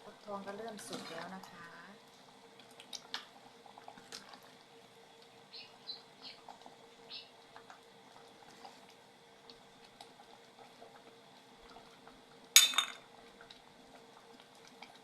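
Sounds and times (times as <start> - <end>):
pot of curry simmering: 0.2 - 15.0.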